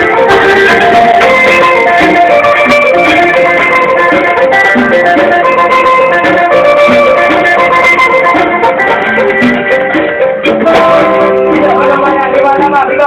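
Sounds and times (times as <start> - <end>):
instrumental music with plucked strings: 0.0 - 13.0.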